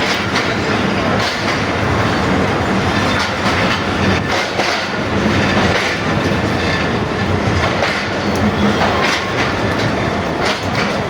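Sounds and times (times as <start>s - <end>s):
train rumbling along track: 0.0s - 11.0s
wheels clicking over rail joints: 0.0s - 11.0s.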